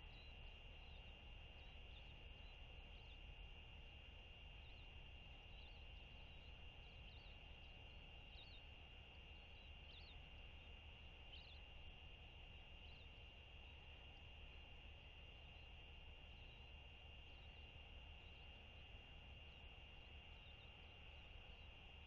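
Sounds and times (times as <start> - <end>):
small high chirps: 0.0 - 22.0
steady high whine: 0.0 - 22.0.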